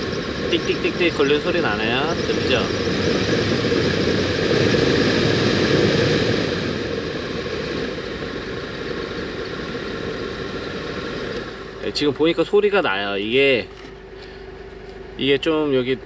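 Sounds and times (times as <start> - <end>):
blower motor fan rushing: 0.0 - 16.0.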